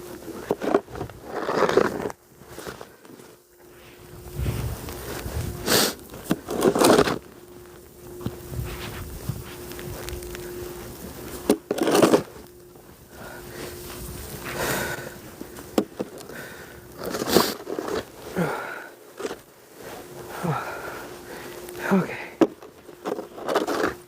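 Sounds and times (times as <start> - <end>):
snow shovel scraping snow: 0.0 - 24.0.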